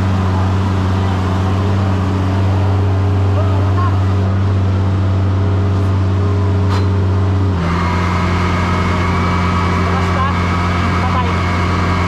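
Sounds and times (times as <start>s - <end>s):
large engine running: 0.0s - 12.0s.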